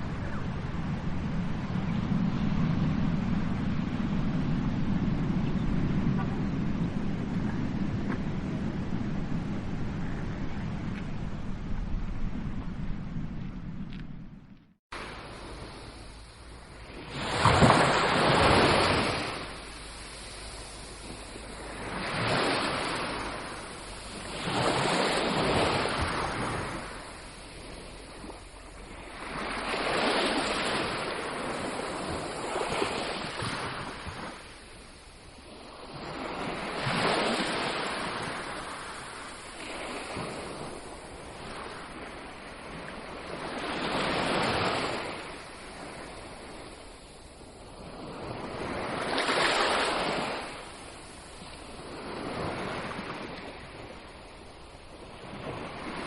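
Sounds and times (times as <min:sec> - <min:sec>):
ocean waves breaking on shore: 0:00.0 - 0:13.7, 0:14.9 - 0:56.0.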